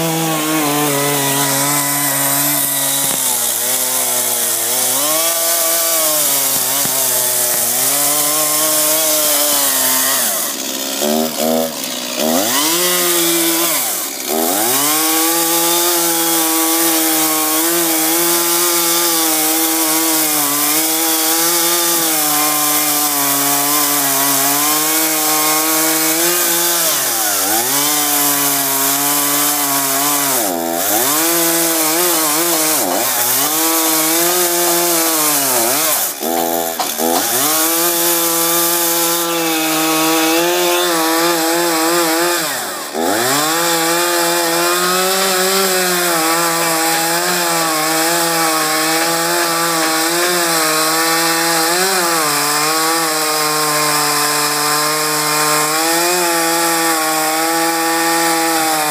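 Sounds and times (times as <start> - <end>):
chainsaw cutting timber: 0.0 - 58.9.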